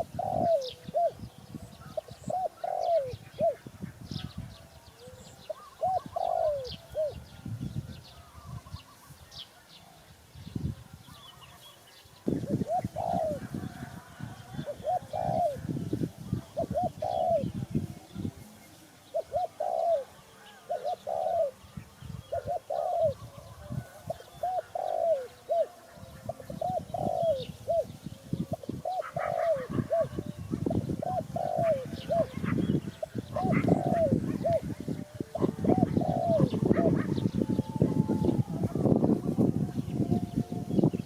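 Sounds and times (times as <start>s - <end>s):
dove cooing: 0.0s - 9.0s, 12.3s - 41.0s.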